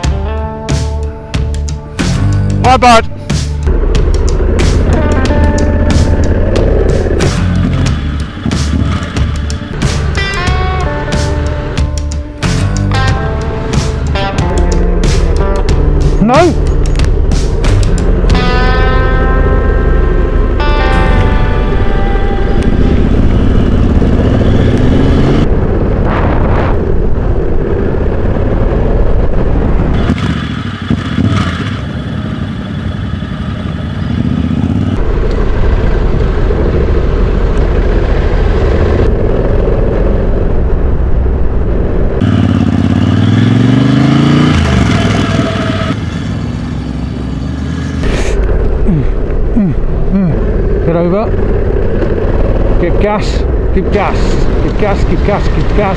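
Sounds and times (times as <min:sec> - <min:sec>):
motorcycle engines accelerating: 0:03.6 - 0:40.9, 0:41.8 - 0:55.9.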